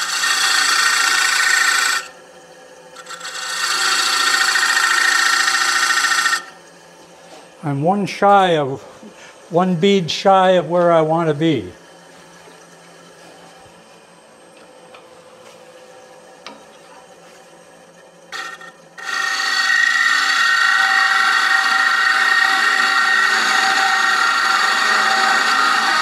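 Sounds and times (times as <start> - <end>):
turning tool scraping wood: 0.0 - 2.2, 3.0 - 14.1, 16.8 - 26.0
wood lathe running: 0.0 - 6.8, 7.6 - 13.6, 17.2 - 26.0.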